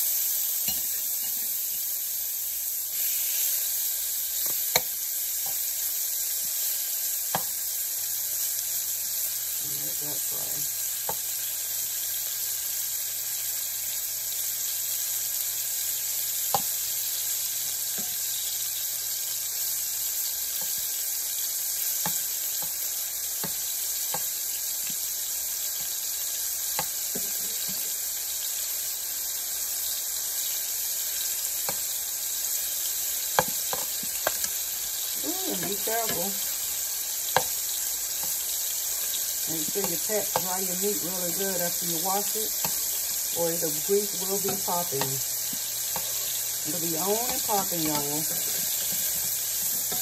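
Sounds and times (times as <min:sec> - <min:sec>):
steak sizzling in oil: 0:00.0 - 0:50.0.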